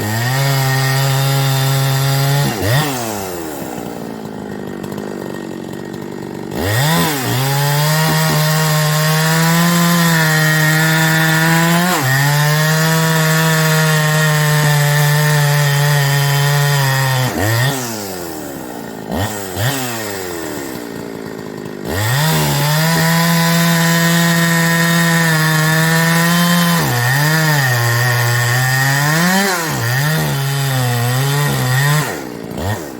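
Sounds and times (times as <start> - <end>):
chainsaw cutting wood: 0.0 - 32.9
chainsaw idling: 0.0 - 32.9.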